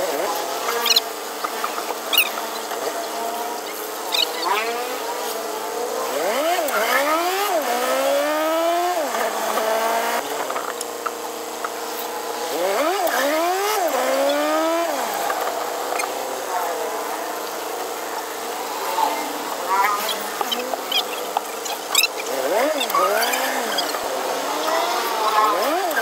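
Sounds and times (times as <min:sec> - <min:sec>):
engine revving with gear changes: 0:00.0 - 0:26.0.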